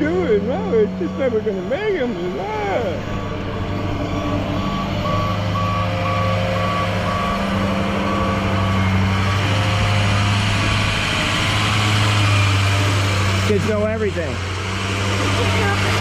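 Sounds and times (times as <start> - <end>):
truck engine running: 0.0 - 16.0
truck reversing alarm beeping: 0.0 - 16.0.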